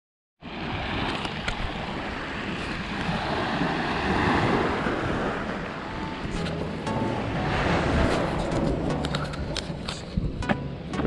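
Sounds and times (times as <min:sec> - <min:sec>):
sea waves washing ashore: 0:00.4 - 0:11.0
wind rumbling on microphone: 0:00.4 - 0:11.0.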